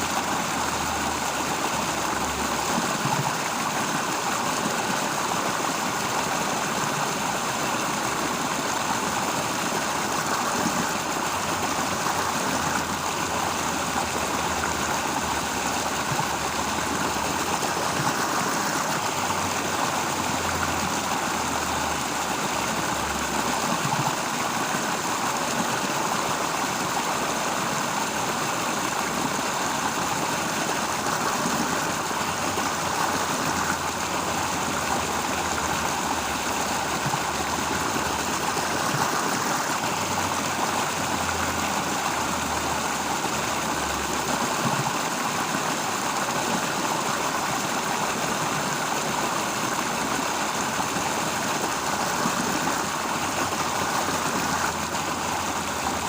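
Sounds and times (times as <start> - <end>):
water flowing: 0.0 - 56.0.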